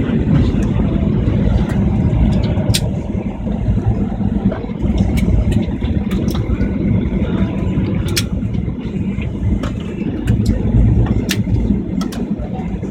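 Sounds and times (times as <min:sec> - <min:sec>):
airliner rolling on runway: 0:00.0 - 0:12.9
sharp clicks and rattles: 0:00.3 - 0:12.7.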